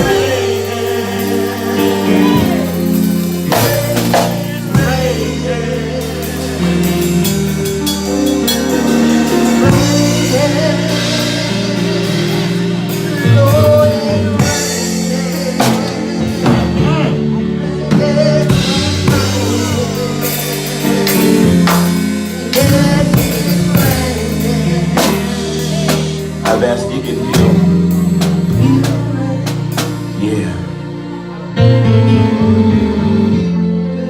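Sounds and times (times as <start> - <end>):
drum kit: 0.0 - 30.5
low held chords: 0.0 - 34.0
person singing: 0.0 - 34.0.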